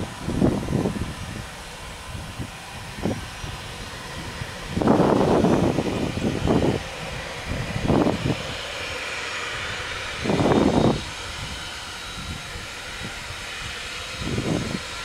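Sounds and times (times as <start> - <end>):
distant jet engine whine: 0.0 - 15.0.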